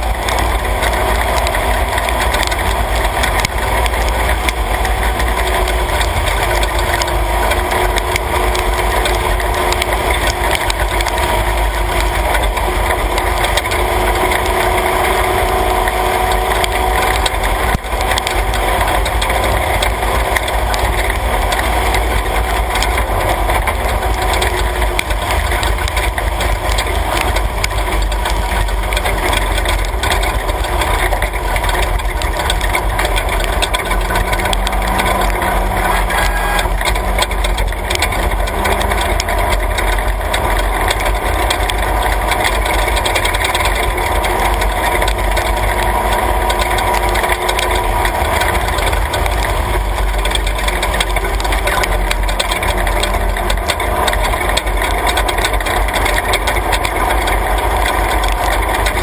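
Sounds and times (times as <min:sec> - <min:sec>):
deep road noise rumble: 0:00.0 - 0:59.0
truck engine running: 0:00.0 - 0:59.0.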